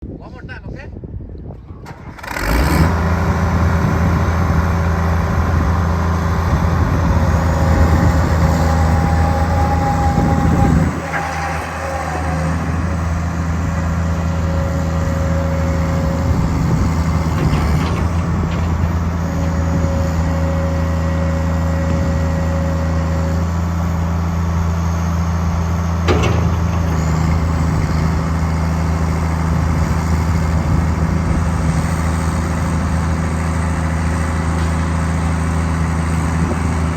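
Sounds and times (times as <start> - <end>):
excavator diesel engine running: 1.9 - 36.9.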